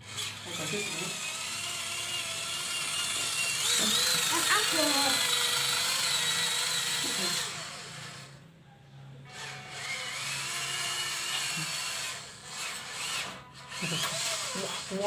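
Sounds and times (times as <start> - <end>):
small electric motor whirring: 0.0 - 8.4, 9.3 - 15.0.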